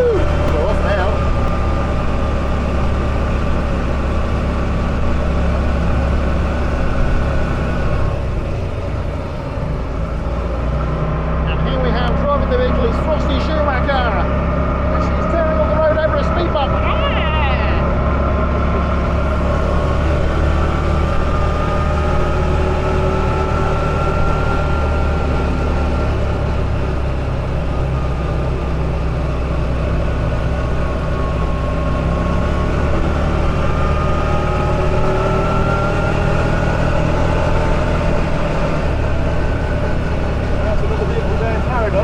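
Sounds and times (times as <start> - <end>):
buggy engine running: 0.0 - 42.0.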